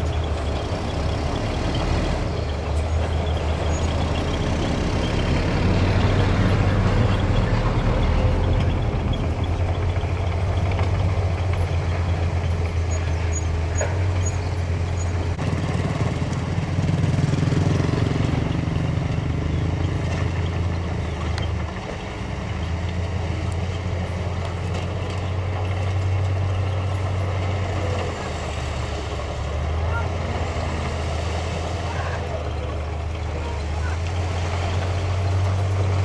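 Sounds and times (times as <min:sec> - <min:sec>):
diesel truck engines running: 0:00.0 - 0:36.0.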